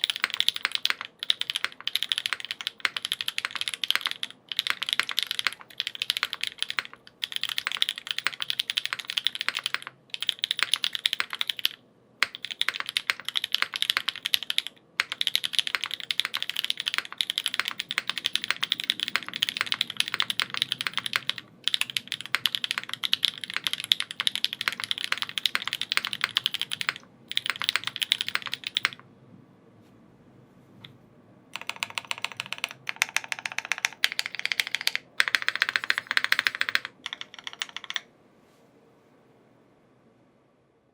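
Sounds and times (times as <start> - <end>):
mechanical keyboard typing: 0.0 - 29.0, 31.5 - 38.1.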